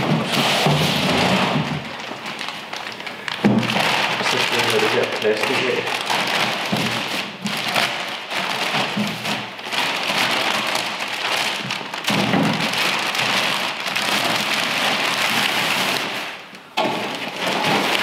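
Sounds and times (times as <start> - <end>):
plastic wrapping crinkling: 0.0 - 18.0.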